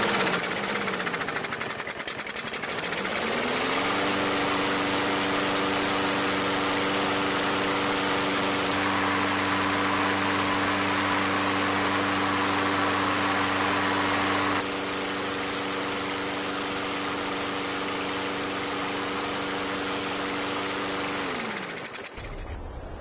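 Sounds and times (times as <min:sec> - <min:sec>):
lawnmower engine running: 0:00.0 - 0:23.0.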